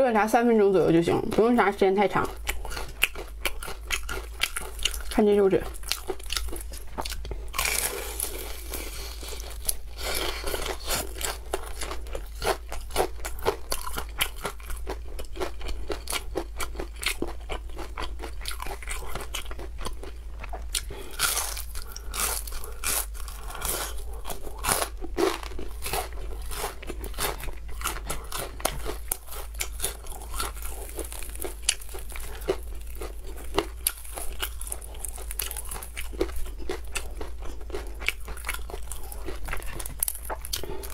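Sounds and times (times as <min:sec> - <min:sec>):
crunching and chewing fried chicken: 0:01.0 - 0:40.9.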